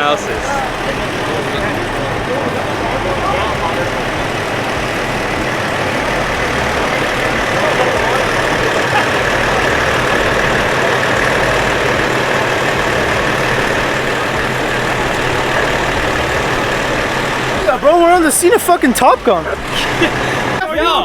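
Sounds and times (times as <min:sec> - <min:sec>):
car engines idling: 0:00.0 - 0:21.0
people talking: 0:00.0 - 0:21.0.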